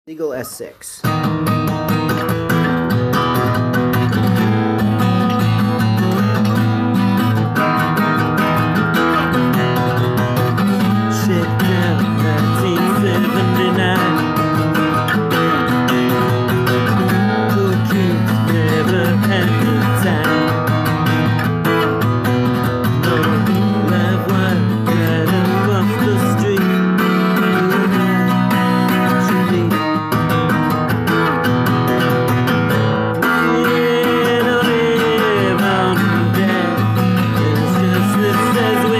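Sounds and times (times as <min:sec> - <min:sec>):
acoustic guitar folk playing: 0:00.1 - 0:38.9.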